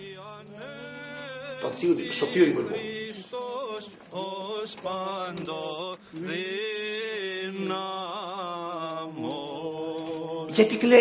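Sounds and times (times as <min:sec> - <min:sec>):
men singing slow chant: 0:00.0 - 0:10.5.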